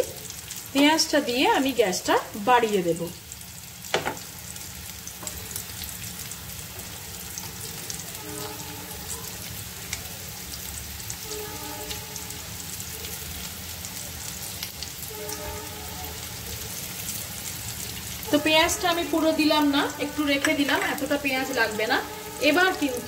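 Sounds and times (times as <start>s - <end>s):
potatoes and onion frying in oil: 0.0s - 23.0s.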